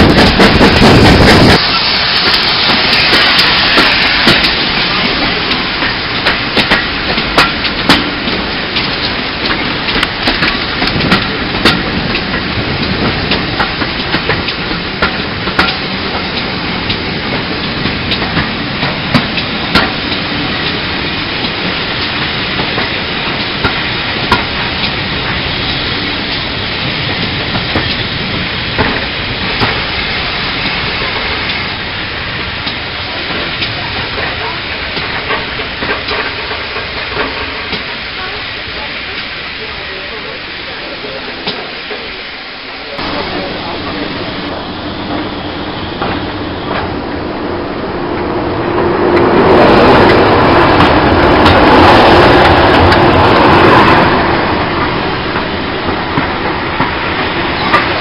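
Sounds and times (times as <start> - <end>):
train wheels rushing on rail: 0.0 - 58.0.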